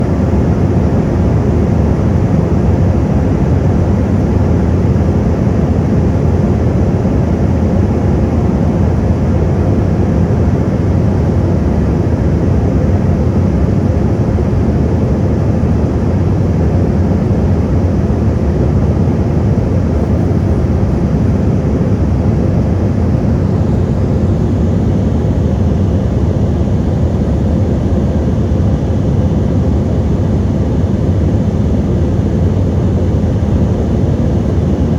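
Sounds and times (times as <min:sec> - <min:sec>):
airliner cabin engine rumble: 0:00.0 - 0:34.9.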